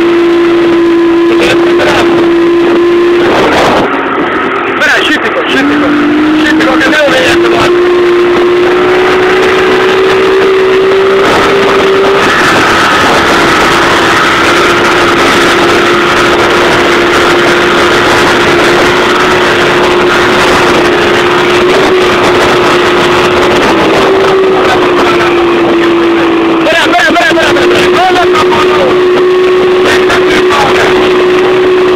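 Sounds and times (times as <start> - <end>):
motorboat engine running: 0.0 - 31.9
rushing water: 0.0 - 31.9
rushing wind: 0.0 - 31.9.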